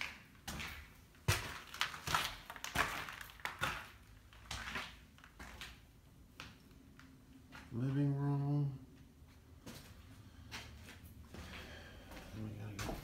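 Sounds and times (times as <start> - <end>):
footsteps and scuffs: 0.0 - 7.8, 8.9 - 13.0.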